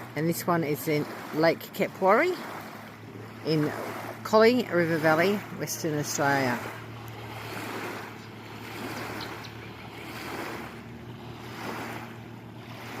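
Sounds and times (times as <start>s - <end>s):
low steady hum: 0.0s - 13.0s
rushing water: 0.0s - 13.0s
wind: 0.0s - 13.0s.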